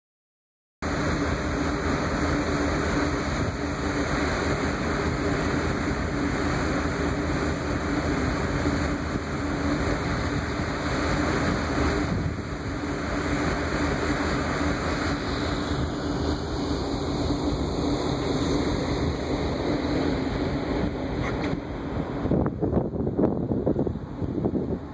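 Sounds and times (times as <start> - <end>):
churning wake rushing: 0.8 - 24.9
ship engine rumble: 0.8 - 24.9.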